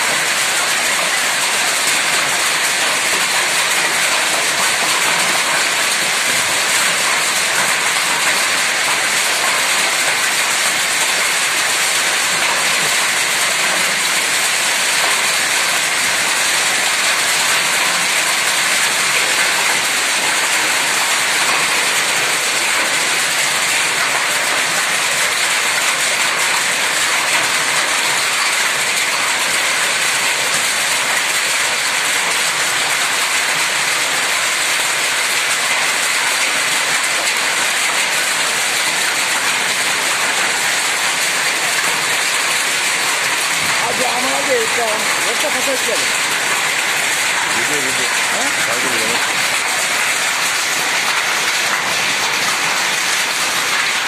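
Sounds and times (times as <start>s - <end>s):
hail clattering: 0.0s - 54.0s
rain: 0.0s - 54.0s.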